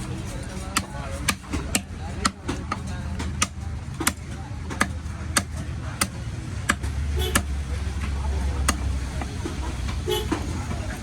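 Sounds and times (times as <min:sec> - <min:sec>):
knife chopping fish: 0:00.0 - 0:10.5
low traffic rumble: 0:00.0 - 0:11.0.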